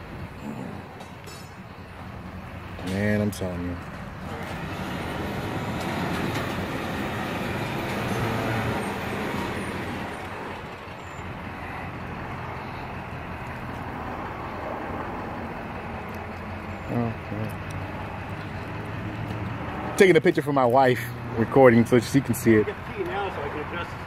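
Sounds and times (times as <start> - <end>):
large motor vehicle engine: 0.0 - 24.0.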